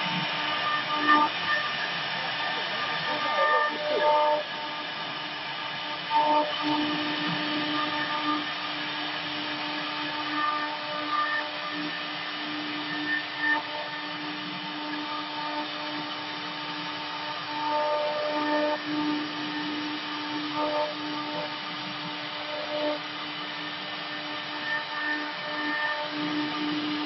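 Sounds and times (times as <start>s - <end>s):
router bits carving wood: 0.0s - 27.0s
spindle motors whining: 0.0s - 27.0s.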